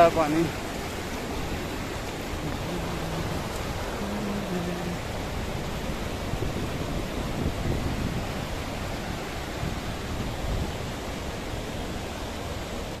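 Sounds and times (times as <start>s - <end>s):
rushing mountain stream: 0.0s - 13.0s.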